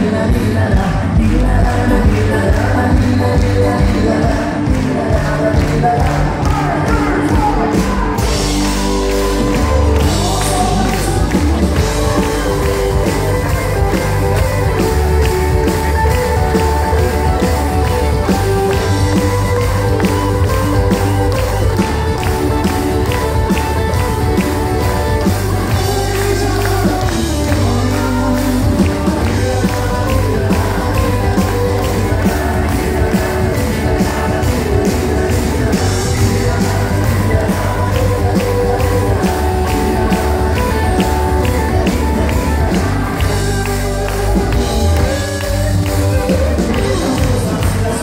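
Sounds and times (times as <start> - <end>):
acoustic guitar: 0.0 - 48.0
bass: 0.0 - 48.0
drum kit beat: 0.0 - 48.0
electric guitar: 0.0 - 48.0
fiddle: 8.5 - 48.0.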